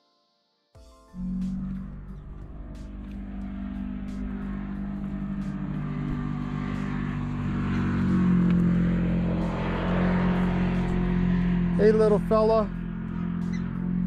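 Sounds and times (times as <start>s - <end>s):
vehicle engine idling: 1.2s - 14.0s.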